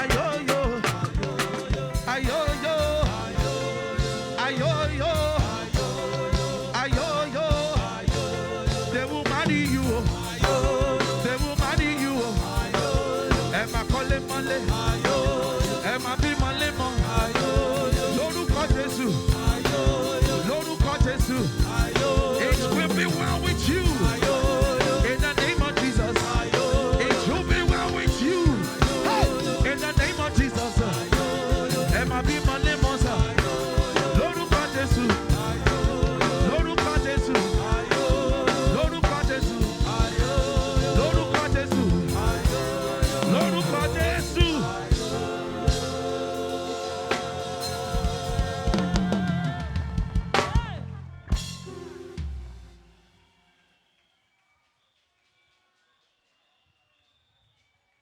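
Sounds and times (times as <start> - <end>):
person singing: 0.0 - 50.9
drum kit beat: 0.0 - 52.1
gospel band playing: 0.0 - 52.8.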